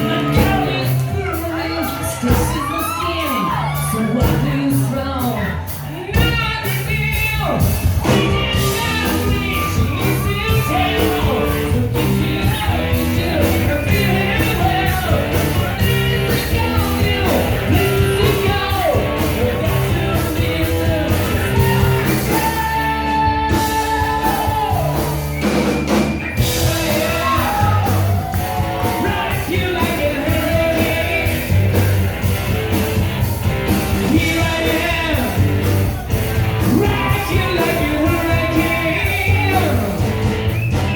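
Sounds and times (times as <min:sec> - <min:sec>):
rock music with singer: 0:00.0 - 0:40.9.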